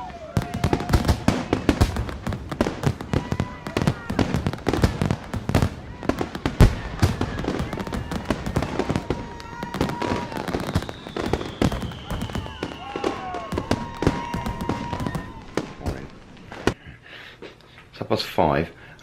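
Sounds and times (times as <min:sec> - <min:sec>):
fireworks bangs: 0:00.0 - 0:16.8
fireworks crackling and popping: 0:00.0 - 0:16.8.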